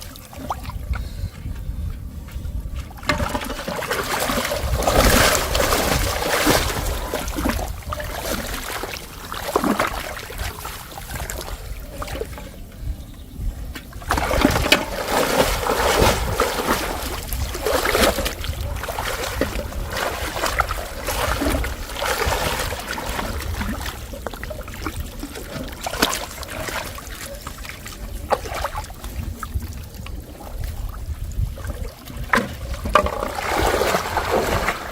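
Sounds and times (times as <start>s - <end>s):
water splashing and trickling: 0.0s - 34.9s.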